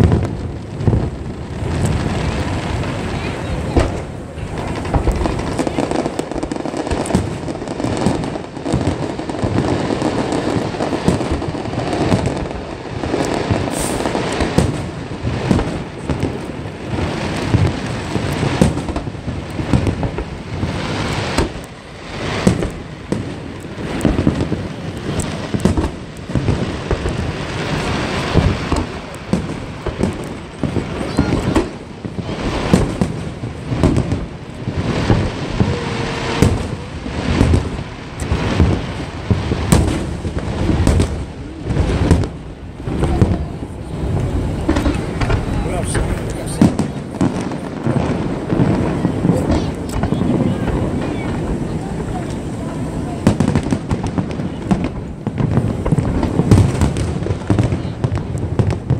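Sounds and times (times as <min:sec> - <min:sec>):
firework crackling: 0:00.0 - 0:58.9
firework shells bursting: 0:00.0 - 0:58.9.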